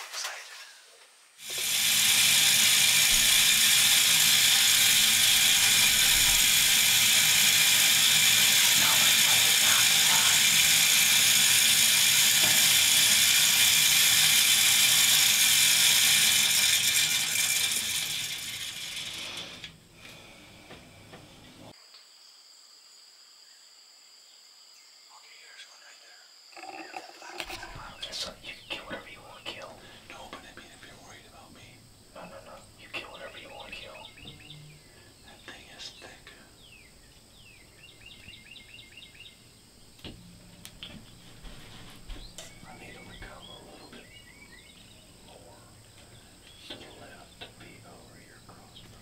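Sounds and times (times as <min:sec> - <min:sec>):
game feeder spinner whirring: 0:01.4 - 0:21.7, 0:26.6 - 0:49.0.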